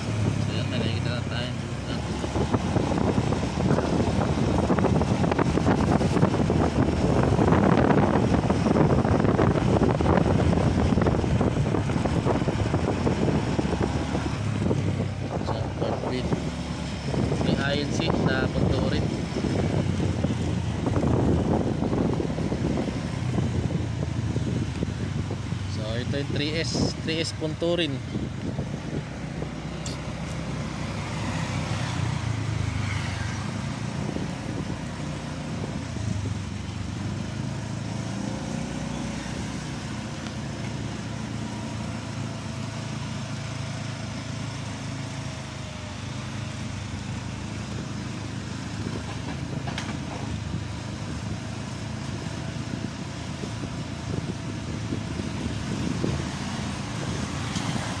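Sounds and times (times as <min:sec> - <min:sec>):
scooter engine and road noise: 0:00.0 - 0:58.0.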